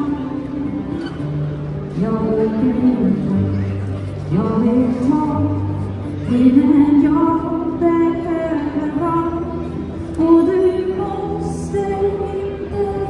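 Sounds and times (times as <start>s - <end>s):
woman singing into a microphone: 0.0s - 1.3s, 1.9s - 13.0s
acoustic guitar: 0.0s - 13.0s.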